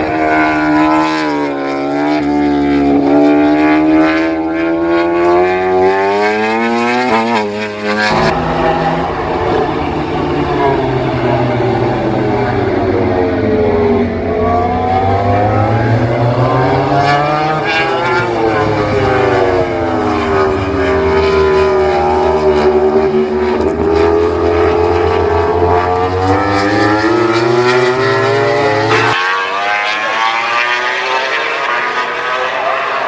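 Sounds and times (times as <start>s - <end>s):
racing motorcycle engines passing: 0.0s - 33.0s.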